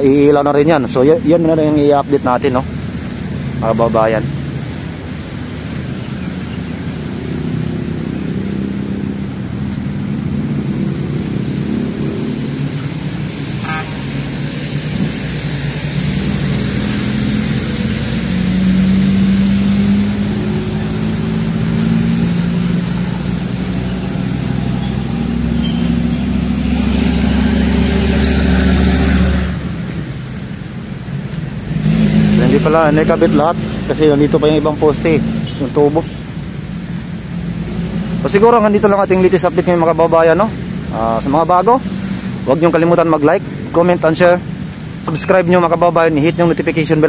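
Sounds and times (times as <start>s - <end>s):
vehicle engines rumbling: 0.0s - 47.0s.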